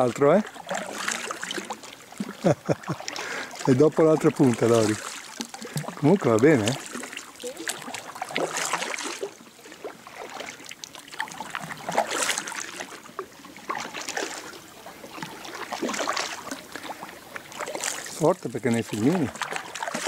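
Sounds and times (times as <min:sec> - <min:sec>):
paddle strokes swishing water: 0:00.0 - 0:20.0
water dripping off paddle: 0:00.0 - 0:20.0.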